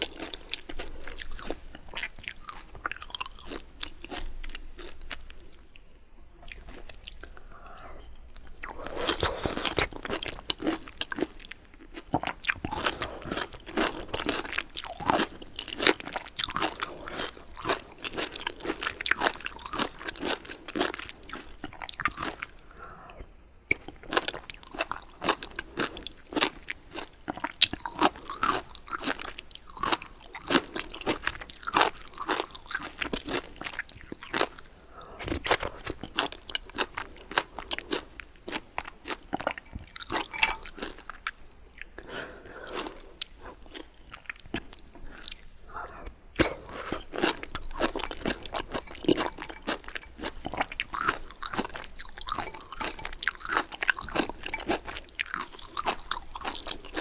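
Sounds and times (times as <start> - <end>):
chewing food: 0.0 - 57.0.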